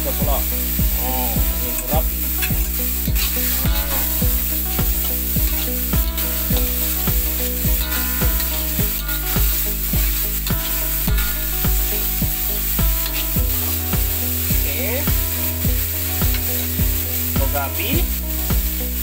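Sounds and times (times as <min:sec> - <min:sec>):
background music with steady beat: 0:00.0 - 0:19.0
sauce sizzling in hot oil: 0:00.0 - 0:19.0.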